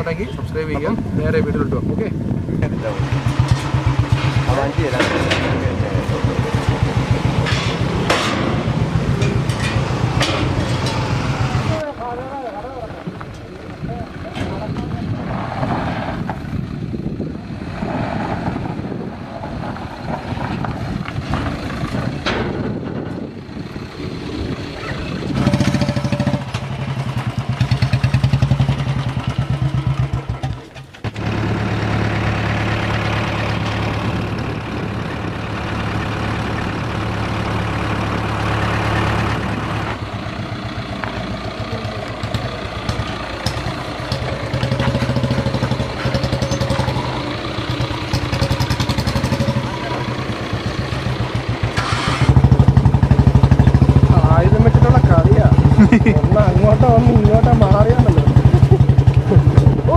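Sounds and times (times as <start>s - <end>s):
motorcycle engine running: 0.0s - 15.2s, 20.8s - 59.9s
rough road noise: 0.0s - 59.9s.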